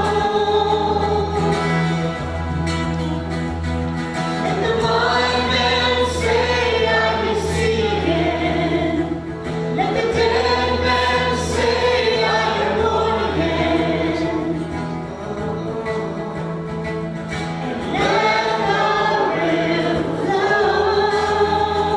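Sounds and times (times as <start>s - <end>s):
group singing worship song: 0.0s - 2.6s, 4.3s - 21.9s
instrumental accompaniment: 0.0s - 21.9s.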